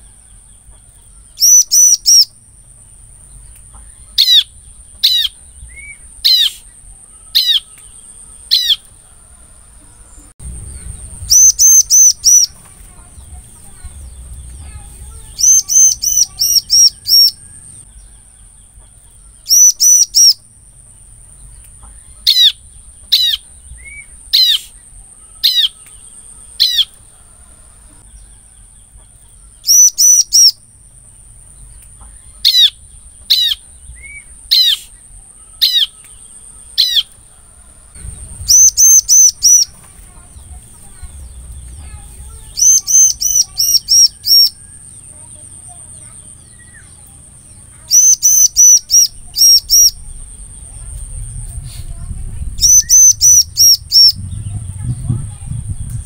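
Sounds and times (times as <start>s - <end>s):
bird high chirps: 0.0s - 27.2s, 27.9s - 56.0s.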